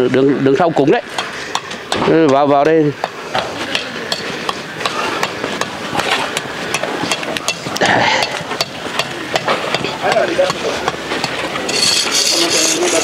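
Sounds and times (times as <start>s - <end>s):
tools tapping concrete blocks: 1.1s - 13.0s.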